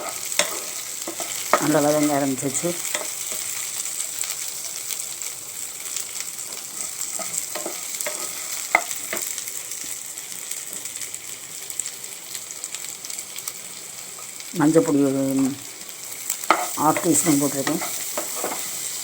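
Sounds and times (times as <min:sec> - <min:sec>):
shallots sizzling in oil: 0:00.0 - 0:19.0.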